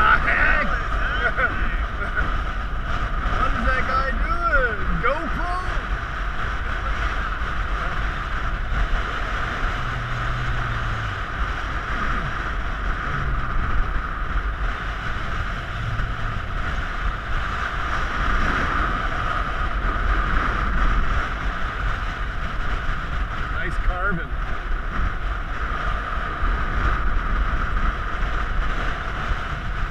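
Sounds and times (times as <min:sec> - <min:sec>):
wind blowing across microphone: 0:00.0 - 0:29.9.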